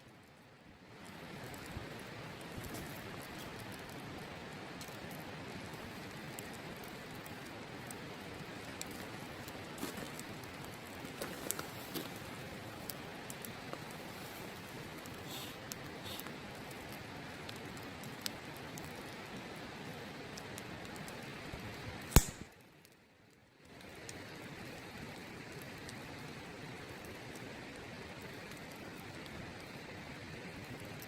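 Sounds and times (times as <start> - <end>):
campfire crackling: 0.0 - 31.0
fire pops and snaps: 0.2 - 31.0.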